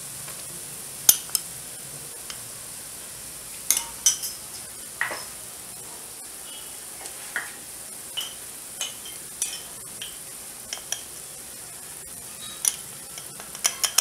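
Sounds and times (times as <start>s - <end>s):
onions frying sizzle: 0.0s - 14.0s.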